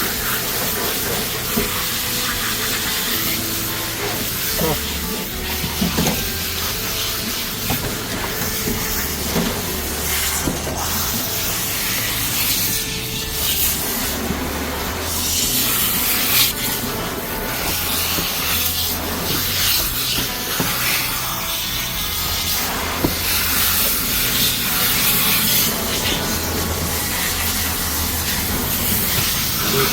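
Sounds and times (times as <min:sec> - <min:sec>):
water spraying: 0:00.0 - 0:29.9.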